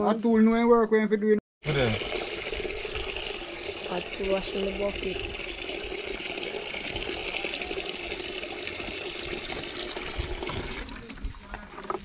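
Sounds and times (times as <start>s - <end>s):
water splashing in a bucket: 1.6s - 12.0s.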